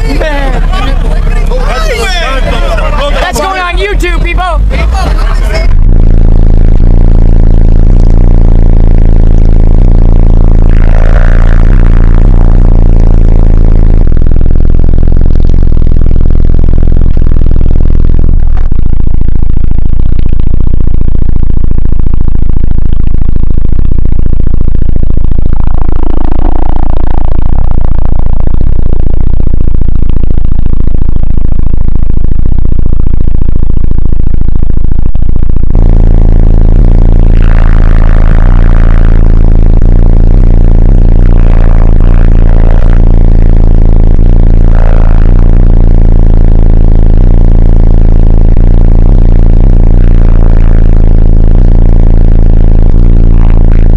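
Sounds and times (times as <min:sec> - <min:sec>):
distorted loud subwoofer bass: 0:00.0 - 0:53.9.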